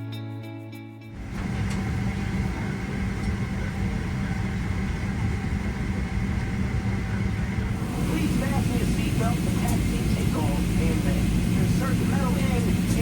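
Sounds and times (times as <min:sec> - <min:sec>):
air-conditioning hum: 0:01.2 - 0:13.0
faint steady tones: 0:01.2 - 0:13.0.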